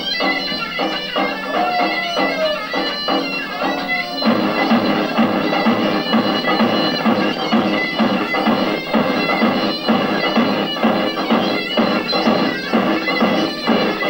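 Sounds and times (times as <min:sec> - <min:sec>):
shrill reed-pipe melody: 0:00.0 - 0:14.0
steady drum beat: 0:00.0 - 0:14.0.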